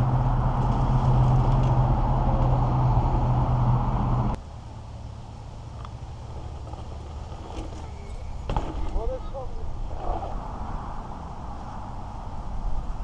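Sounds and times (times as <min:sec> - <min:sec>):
engine drone: 0:00.0 - 0:13.0
road noise: 0:00.0 - 0:13.0.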